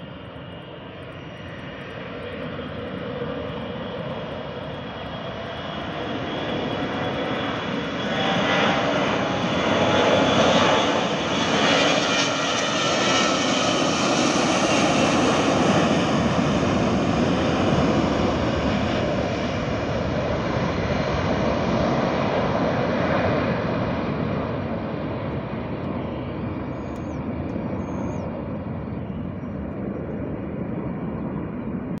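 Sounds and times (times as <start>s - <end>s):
jet airliner taking off: 0.0s - 32.0s.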